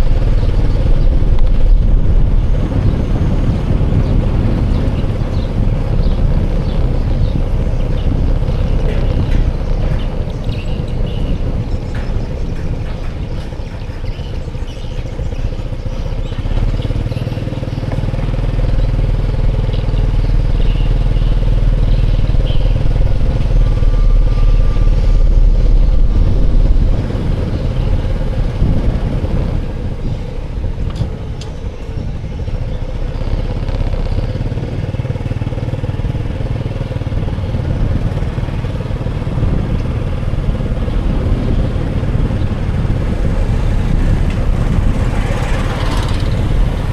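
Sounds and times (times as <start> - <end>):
motorcycle engine rumble: 0.0 - 46.9.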